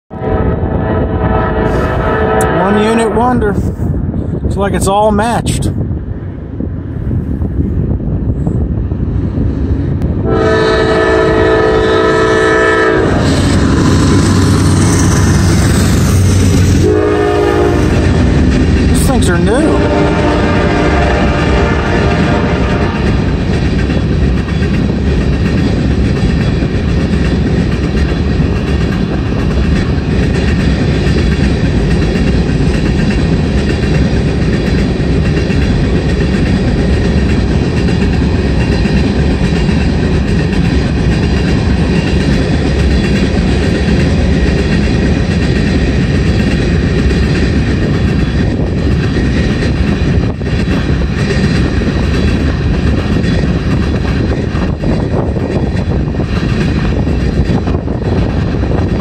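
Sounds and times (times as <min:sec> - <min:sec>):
steel wheels rumbling on rails: 0:00.1 - 0:59.0.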